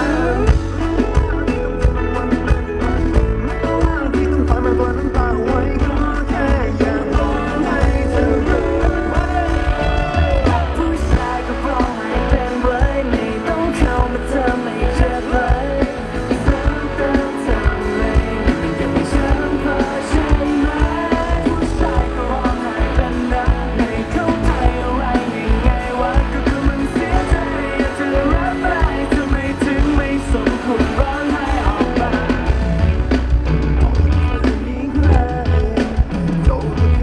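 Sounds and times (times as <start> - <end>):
men singing: 0.0 - 1.7, 3.4 - 37.0
pop-rock band playing: 0.0 - 37.0.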